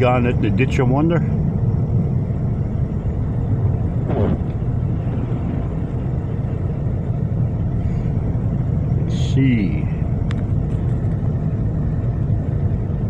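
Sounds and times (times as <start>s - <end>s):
car driving rumble: 0.0s - 13.0s
tyres on snowy road: 0.0s - 13.0s.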